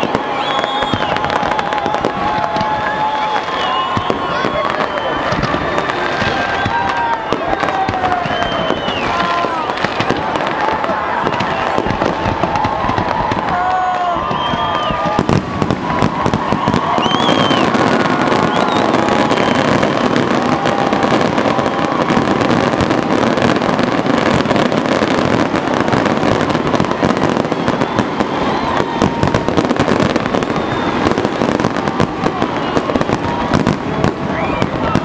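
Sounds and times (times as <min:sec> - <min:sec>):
fireworks bursts and crackling: 0:00.0 - 0:35.0.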